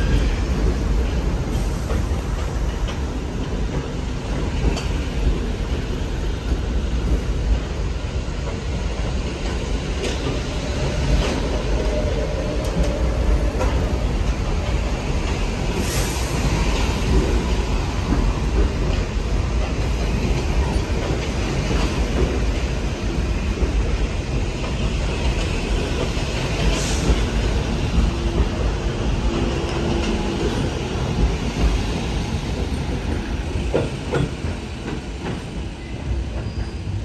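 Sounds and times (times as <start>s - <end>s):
subway train wheels rumbling: 0.0s - 37.0s.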